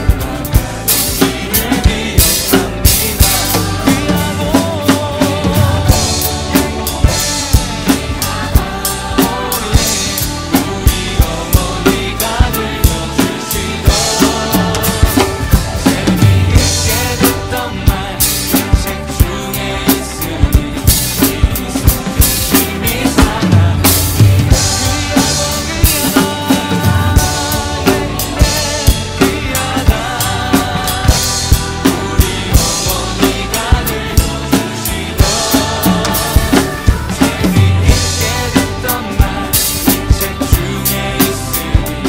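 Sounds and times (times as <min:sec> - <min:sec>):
drum kit playing a steady beat: 0:00.0 - 0:42.0
hymn backing track: 0:00.0 - 0:42.0.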